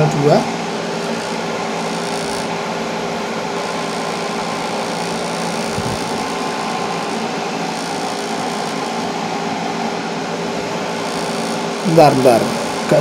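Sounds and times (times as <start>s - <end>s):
electric fan whirring: 0.0s - 13.0s.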